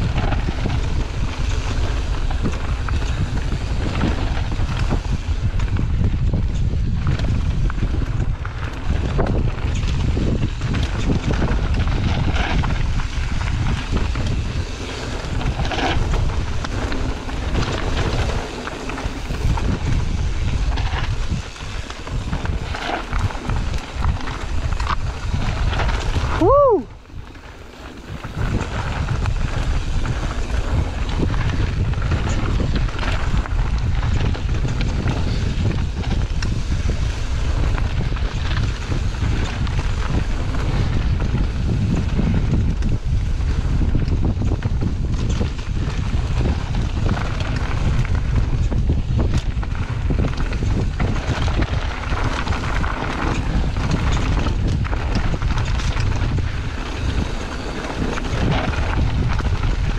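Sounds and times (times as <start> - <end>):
bike rattling over bumps: 0.0 - 59.9
bike tyres rolling on gravel: 0.0 - 59.9
wind buffeting microphone: 0.0 - 59.9.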